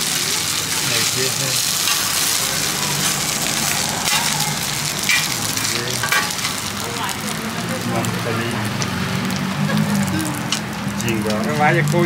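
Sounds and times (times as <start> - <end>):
food sizzling as it fries: 0.0 - 12.0
small crackles: 0.0 - 12.0.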